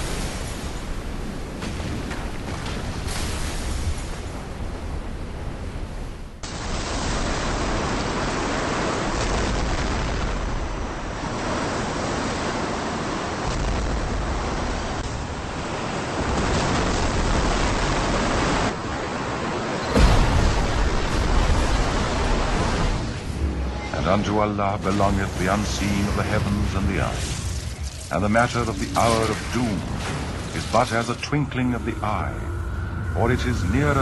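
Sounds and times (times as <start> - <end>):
deep steady rumble of wave: 0.0 - 34.0
rushing water: 6.4 - 34.0.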